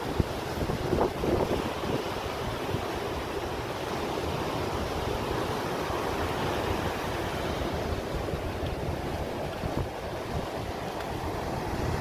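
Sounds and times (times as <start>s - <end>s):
surf breaking on beach: 0.0s - 12.0s
wind rumbling on microphone: 0.0s - 12.0s.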